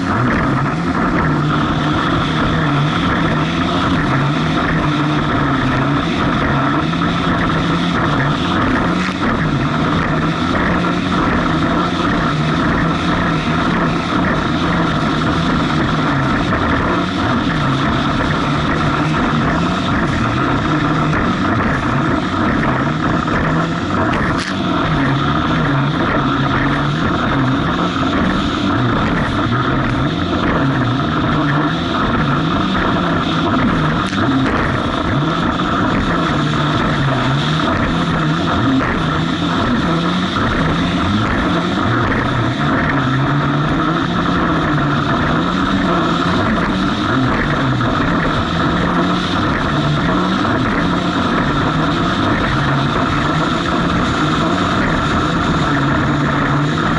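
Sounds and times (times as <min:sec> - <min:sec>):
jet ski engine running hard: 0:00.0 - 0:56.9.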